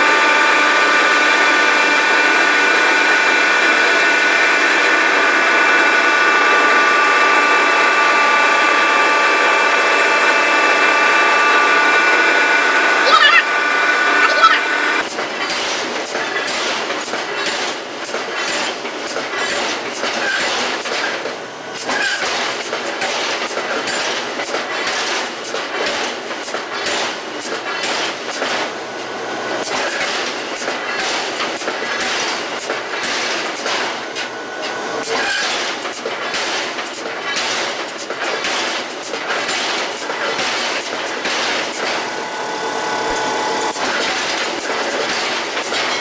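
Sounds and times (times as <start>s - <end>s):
factory machinery clattering: 0.0s - 46.0s.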